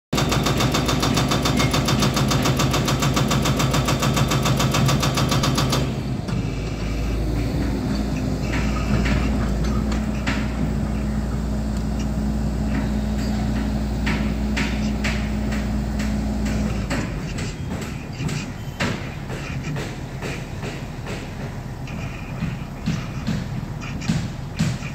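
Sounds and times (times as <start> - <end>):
excavator diesel engine running: 0.2 - 24.9
hydraulic breaker hammering rock: 0.2 - 24.9
metal clanks and knocks: 0.2 - 24.9.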